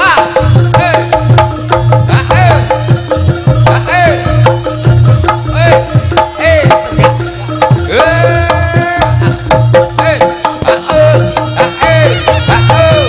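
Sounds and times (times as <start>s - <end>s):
hand drums with bending pitch: 0.0s - 13.0s.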